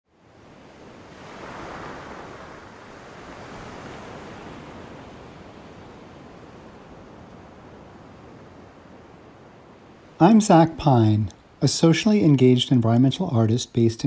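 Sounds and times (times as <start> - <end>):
ocean surf washing on beach: 0.1 - 14.0.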